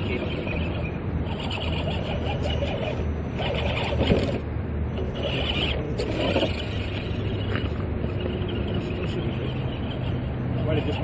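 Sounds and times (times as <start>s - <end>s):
electric motor and gears whining: 0.0s - 11.0s.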